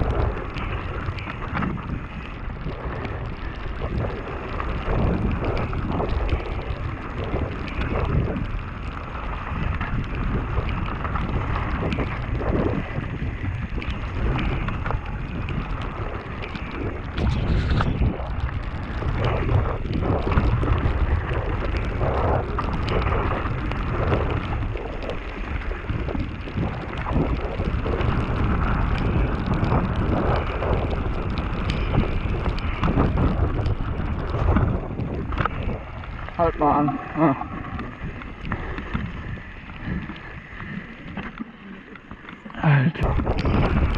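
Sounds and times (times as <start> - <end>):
bike knocking and rattling: 0.0 - 43.9
tyres rolling through wet dirt: 0.0 - 43.9
wind buffeting microphone: 0.0 - 43.9.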